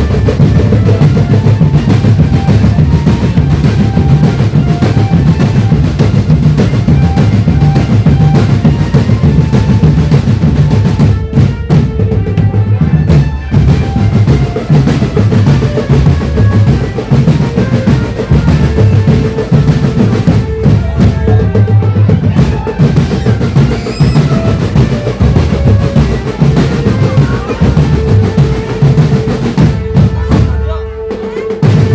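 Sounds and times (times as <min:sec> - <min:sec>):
marching drum band: 0:00.0 - 0:31.9.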